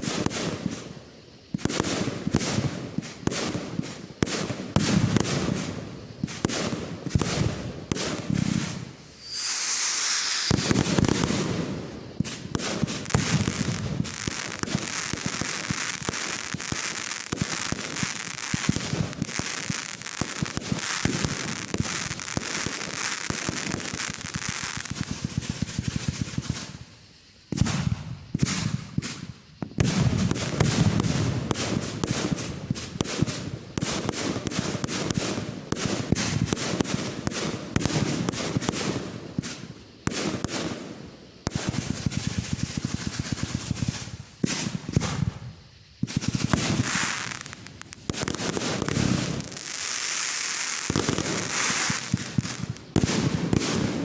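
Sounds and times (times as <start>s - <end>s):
fireworks crackling pops: 0.0s - 54.0s.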